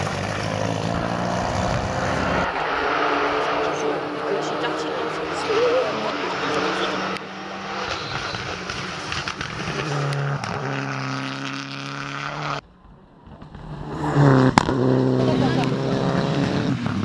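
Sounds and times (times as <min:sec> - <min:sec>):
rally car engine at high revs: 0:00.0 - 0:12.6, 0:13.6 - 0:17.0.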